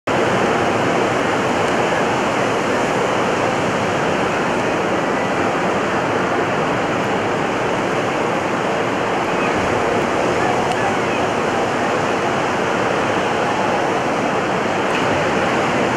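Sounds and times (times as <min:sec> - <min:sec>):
ocean surf breaking: 0:00.1 - 0:15.9.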